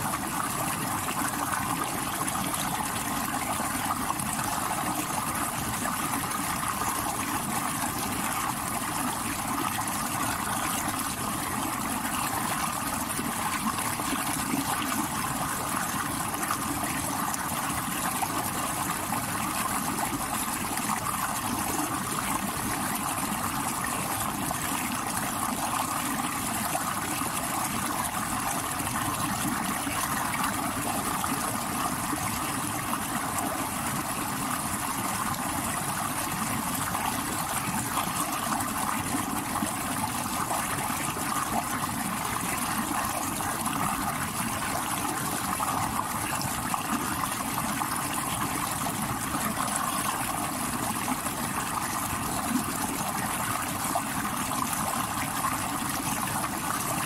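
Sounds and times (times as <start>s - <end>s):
stream water rushing over rocks: 0.0s - 57.0s.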